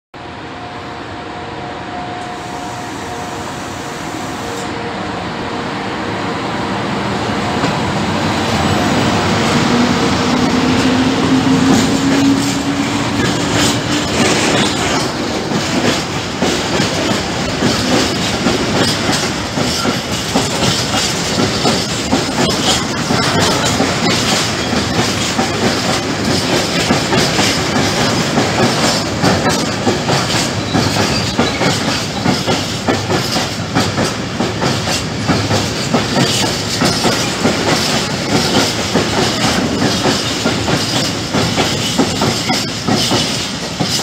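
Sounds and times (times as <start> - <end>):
electric locomotive hum: 0.2 - 44.0
clickety-clack of train wheels: 7.4 - 44.0.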